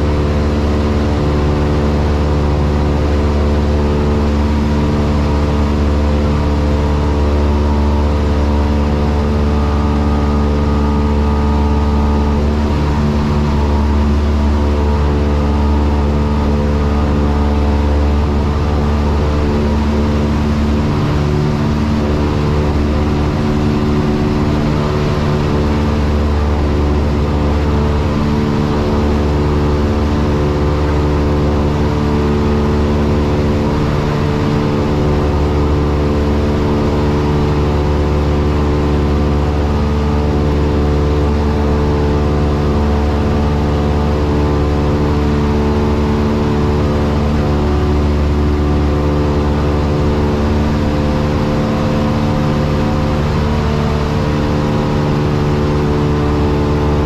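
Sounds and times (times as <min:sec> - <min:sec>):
light aircraft engine and propeller: 0:00.0 - 0:57.0.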